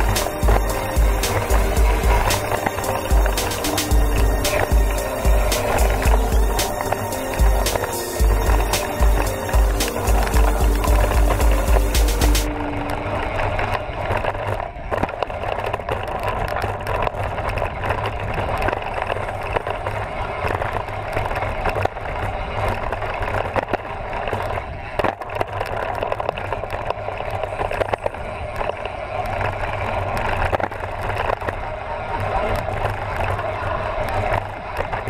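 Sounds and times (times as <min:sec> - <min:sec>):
bike tyres rolling on gravel: 0:00.0 - 0:35.0.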